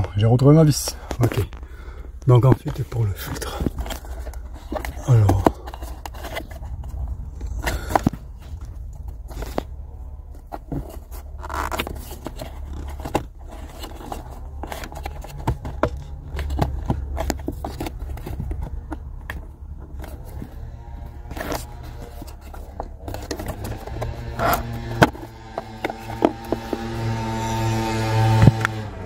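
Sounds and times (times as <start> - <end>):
low steady hum: 0.0 - 29.0
fingers scraping plastic: 2.4 - 9.7, 10.3 - 28.8.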